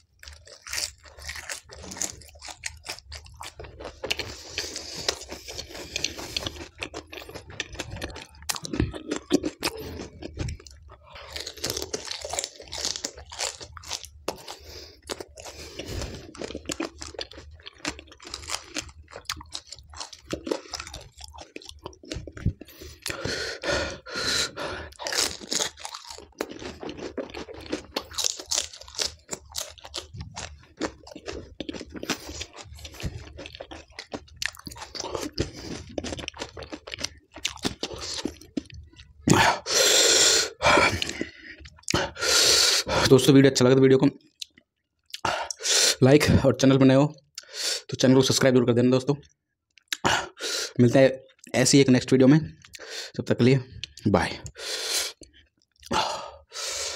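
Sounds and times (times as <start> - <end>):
crunching and chewing: 0.0 - 42.2, 44.2 - 45.6, 53.7 - 56.9.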